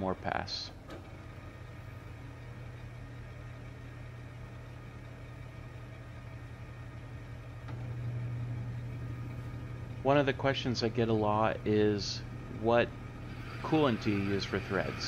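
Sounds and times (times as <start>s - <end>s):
metal lathe humming: 0.7s - 15.0s.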